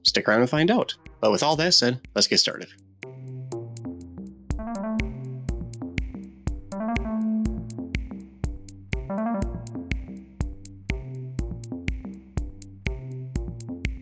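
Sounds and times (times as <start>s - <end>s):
electronic music with synthesizer: 0.0s - 14.0s.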